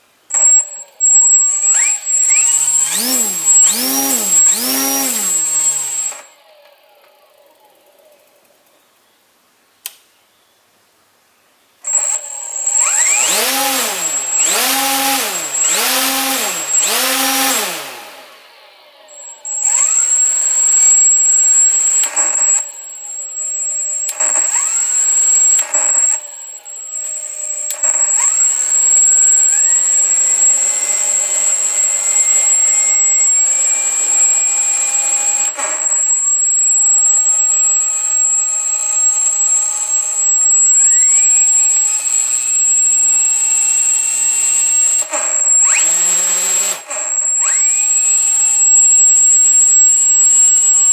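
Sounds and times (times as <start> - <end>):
high-pitched whine: 0.0 - 8.5, 11.8 - 50.9
electric motor spinning propeller: 0.4 - 6.9, 11.9 - 50.9.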